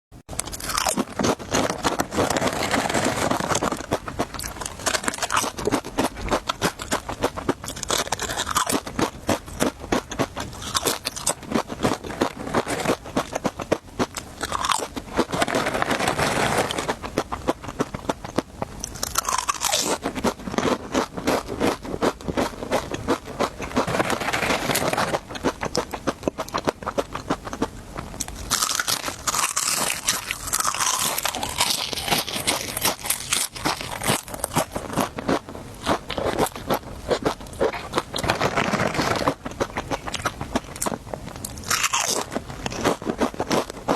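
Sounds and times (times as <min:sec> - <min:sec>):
person crunching crisp snacks: 0:00.3 - 0:43.9.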